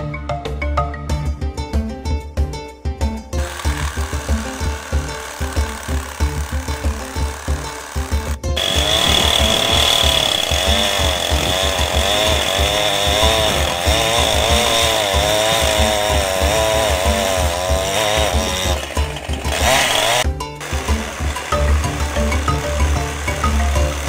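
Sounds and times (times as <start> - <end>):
chainsaw running at high revs: 3.4 - 24.0.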